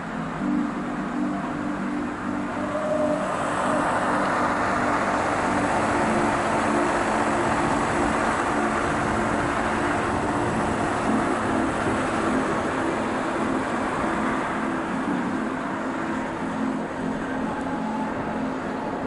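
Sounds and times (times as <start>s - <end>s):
train rumbling with rhythmic pulsing: 0.0s - 19.0s.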